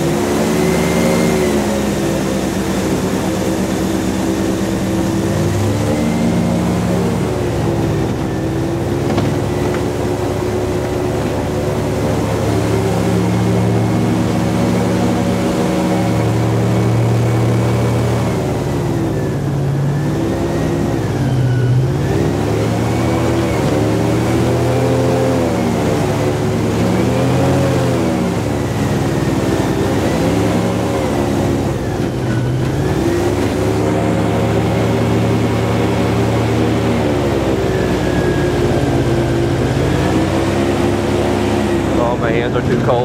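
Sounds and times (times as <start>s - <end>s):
airboat engine and propeller: 0.0s - 43.0s.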